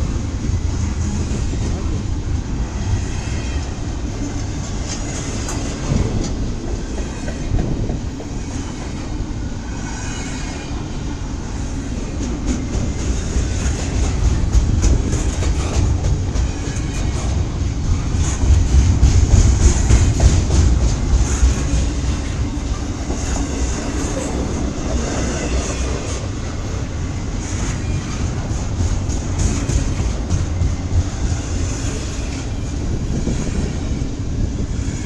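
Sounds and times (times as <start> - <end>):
wheels clacking over rail joints: 0.0 - 10.9, 11.5 - 35.0
train wheels rumbling on rail: 0.0 - 35.0.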